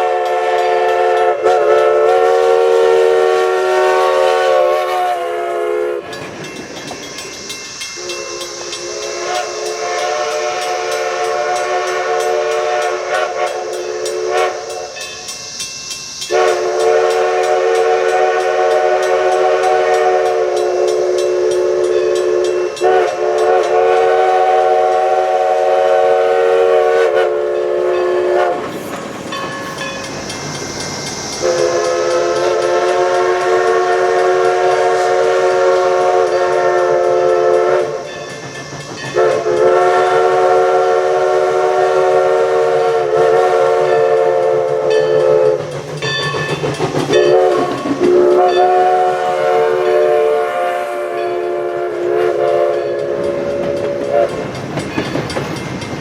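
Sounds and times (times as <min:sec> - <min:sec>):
steady high hiss: 0:00.0 - 0:54.8
steam locomotive whistle chord: 0:00.0 - 0:55.2.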